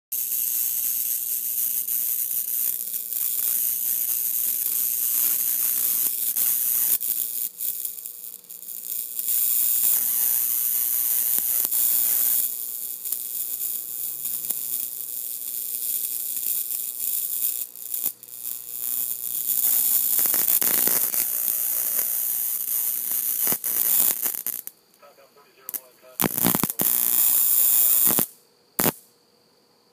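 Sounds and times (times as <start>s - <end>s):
sharp electric snaps: 0.1s - 29.2s
bug zapper crackling: 0.2s - 29.0s
faint electrical hum: 0.2s - 29.9s.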